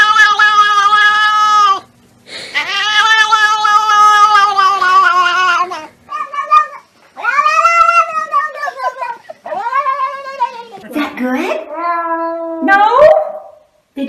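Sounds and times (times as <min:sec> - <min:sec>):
cat yowling meow: 0:00.0 - 0:01.9, 0:02.6 - 0:10.8, 0:11.6 - 0:13.2.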